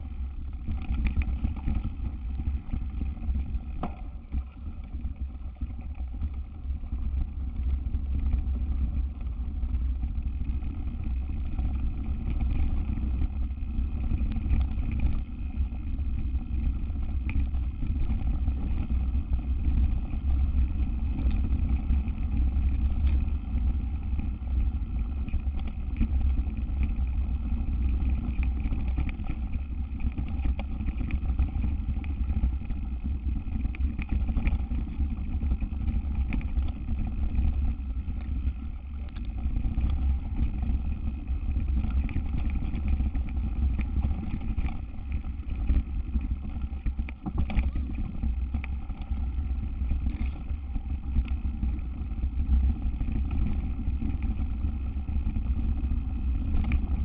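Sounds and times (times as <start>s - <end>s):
bike tyre noise: 0.0s - 57.0s
wind rumble on microphone: 0.0s - 57.0s.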